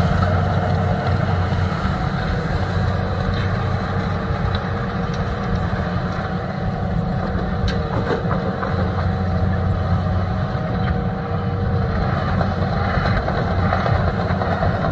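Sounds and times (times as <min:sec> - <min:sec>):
excavator diesel engine working: 0:00.0 - 0:14.9.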